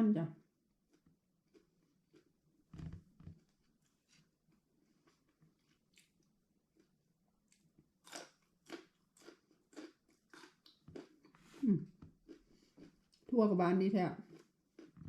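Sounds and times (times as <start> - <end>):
person chewing crunchy food: 0.9 - 4.1, 4.9 - 13.3, 14.2 - 15.0.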